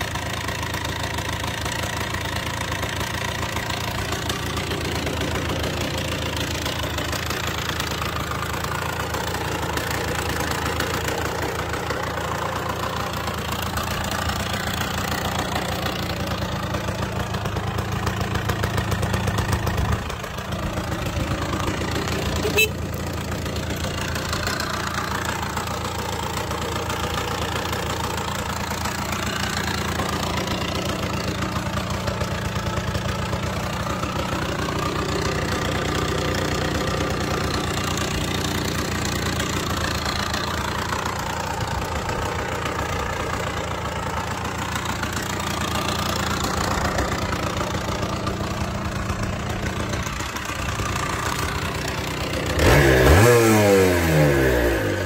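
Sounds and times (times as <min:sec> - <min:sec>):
two-stroke engine idling: 0:00.0 - 0:55.0.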